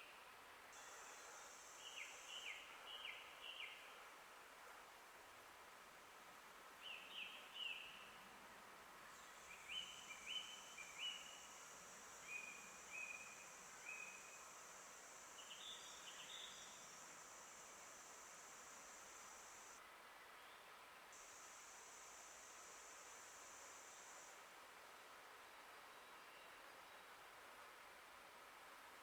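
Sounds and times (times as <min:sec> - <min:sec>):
steady high hiss: 0:00.0 - 0:20.1, 0:20.8 - 0:29.0.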